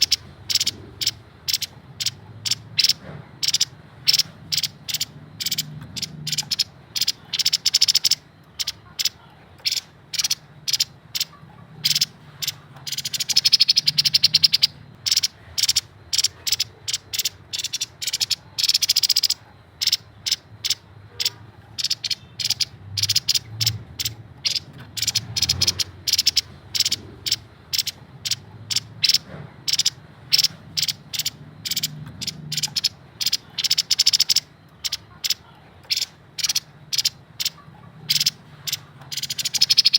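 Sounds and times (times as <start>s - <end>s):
bird rattling trills: 0.0s - 39.9s.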